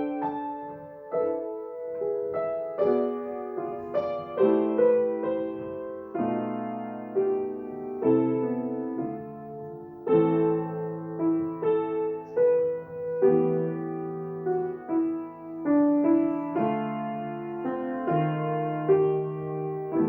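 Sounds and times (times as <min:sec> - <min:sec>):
slow solo piano melody: 0:00.0 - 0:20.0.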